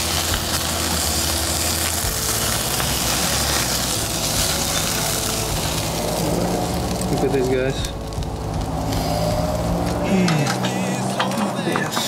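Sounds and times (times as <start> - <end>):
low rumble: 0.0 - 11.4
meat sizzling over charcoal: 0.0 - 12.0.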